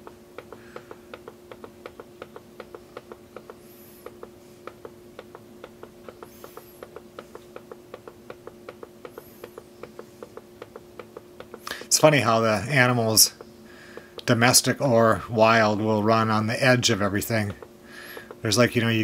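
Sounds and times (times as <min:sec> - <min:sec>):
rapid mechanical clicking: 0:00.0 - 0:19.0
steady low hum: 0:00.0 - 0:19.0.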